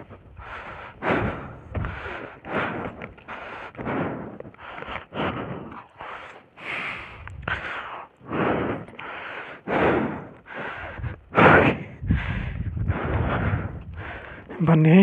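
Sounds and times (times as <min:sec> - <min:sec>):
person breathing heavily: 0:00.0 - 0:14.7.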